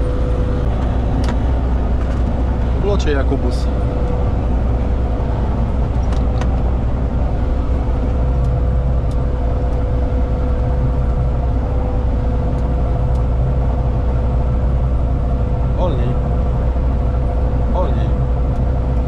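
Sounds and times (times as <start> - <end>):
combine harvester engine drone: 0.0 - 19.0
constant whine: 0.0 - 19.0.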